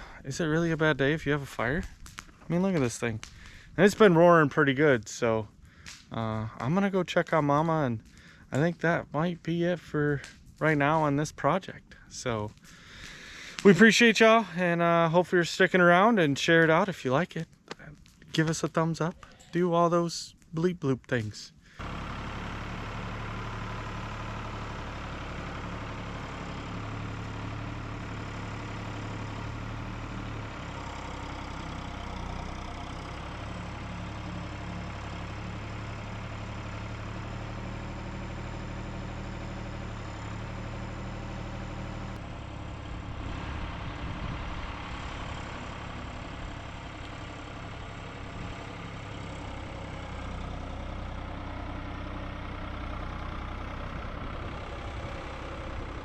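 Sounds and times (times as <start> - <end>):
engine idling: 0.0 - 11.1, 12.0 - 15.6, 21.6 - 56.0.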